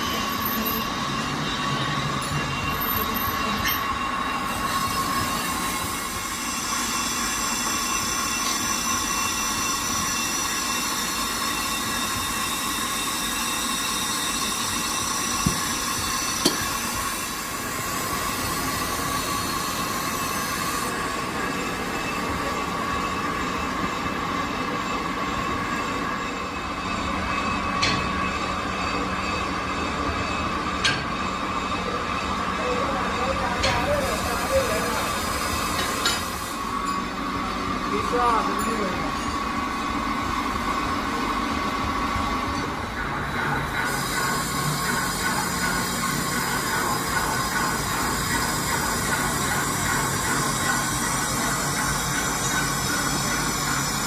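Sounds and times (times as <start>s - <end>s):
workshop machinery whining: 0.0s - 54.0s.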